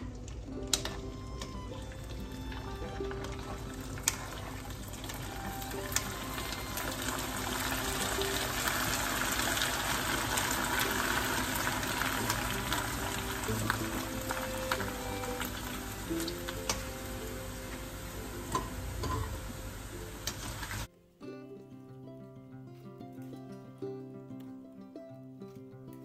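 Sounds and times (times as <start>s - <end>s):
food sizzling in hot oil: 0.0s - 20.9s.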